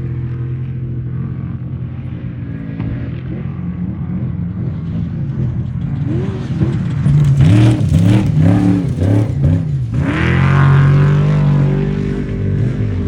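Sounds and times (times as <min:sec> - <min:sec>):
race vehicle engine revving: 0:01.1 - 0:13.0.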